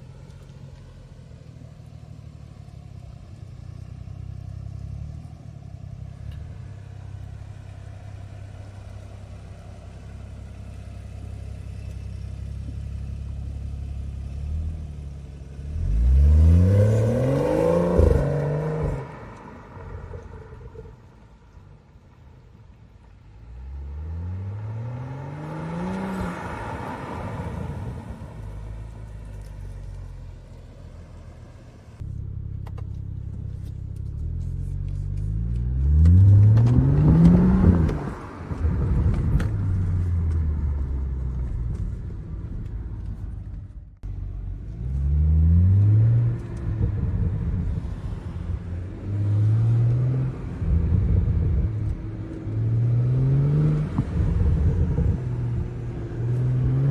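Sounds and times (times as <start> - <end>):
car engine accelerating: 0.0 - 21.6, 22.8 - 56.9.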